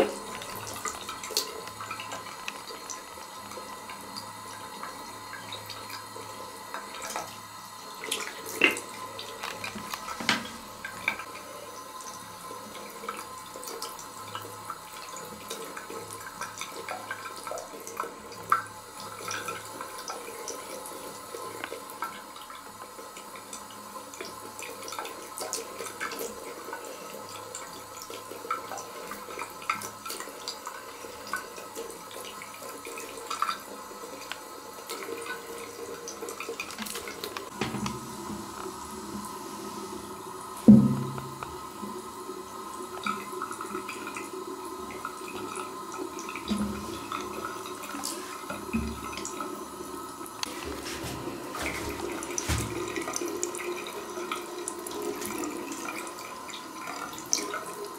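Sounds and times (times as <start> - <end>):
water trickling into a basin: 0.0 - 57.9.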